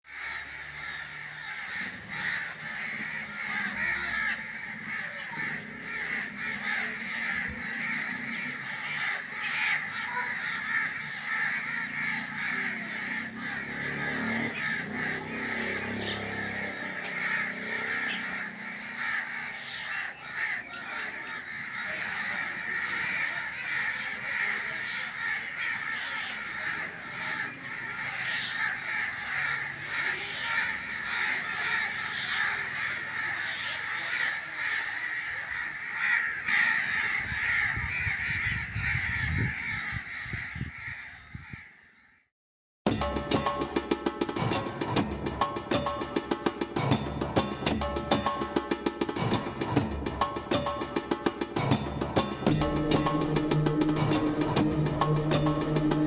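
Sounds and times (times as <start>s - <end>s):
flock of birds calling: 0.1s - 42.2s, 42.9s - 56.0s.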